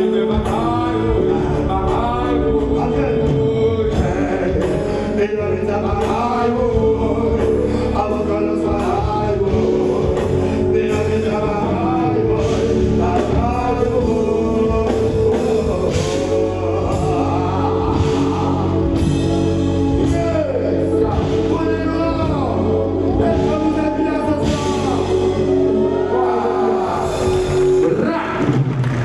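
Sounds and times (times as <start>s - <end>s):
man singing: 0.0s - 28.7s
reggae band playing: 0.0s - 29.0s.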